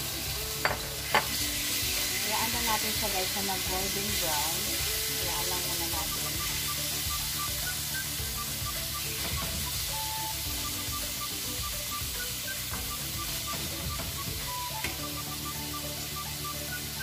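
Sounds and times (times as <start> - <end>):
background music: 0.0 - 17.0
meat sizzling in hot oil: 0.0 - 17.0.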